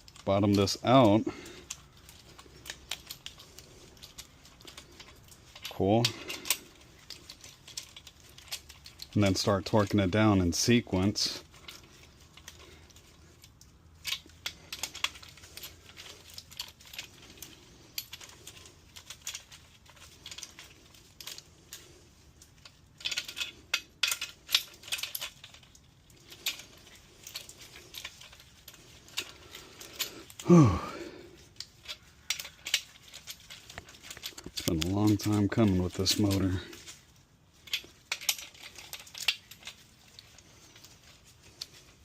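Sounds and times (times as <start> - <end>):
metal tools clinking: 0.0 - 42.0.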